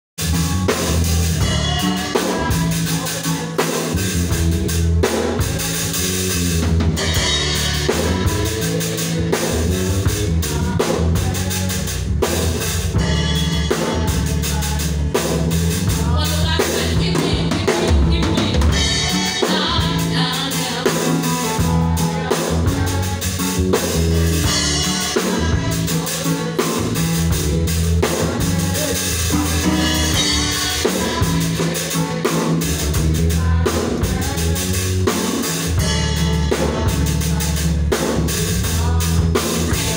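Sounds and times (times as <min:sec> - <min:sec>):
bass line: 0:00.2 - 0:39.9
drum kit: 0:00.2 - 0:39.9
rock band music: 0:00.2 - 0:39.9.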